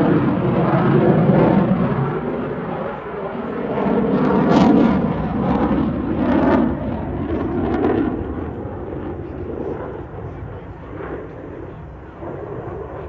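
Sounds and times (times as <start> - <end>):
airplane flying past: 0.0 - 13.0.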